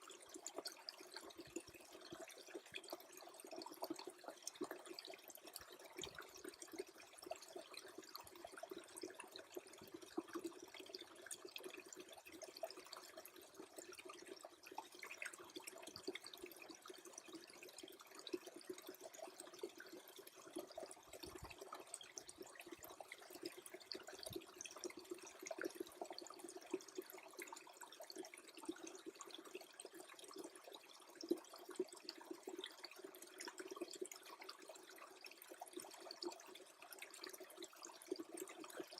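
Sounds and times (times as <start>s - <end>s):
tiny drips and clicks: 0.0s - 38.9s
water trickling faintly: 0.0s - 38.9s.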